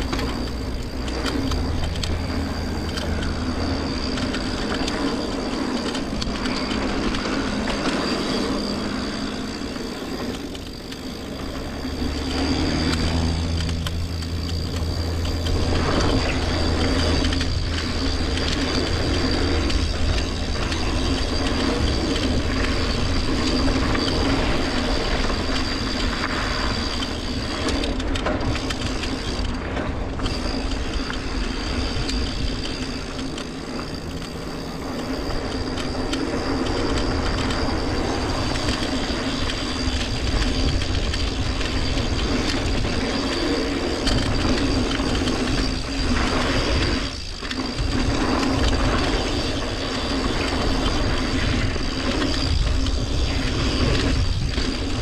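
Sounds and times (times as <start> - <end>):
bike frame rattling: 0.0 - 55.0
tyre noise on dirt trail: 0.0 - 55.0.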